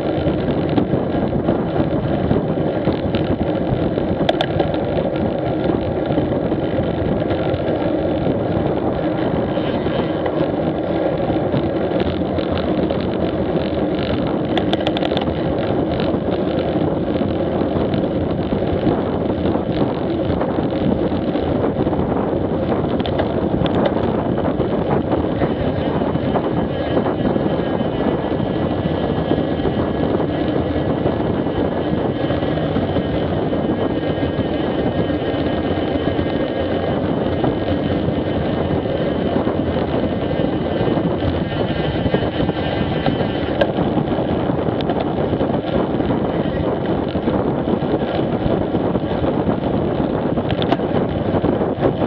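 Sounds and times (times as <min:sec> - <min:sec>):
motorcycle engine running: 0:00.0 - 0:52.0
wind on microphone: 0:00.0 - 0:52.0.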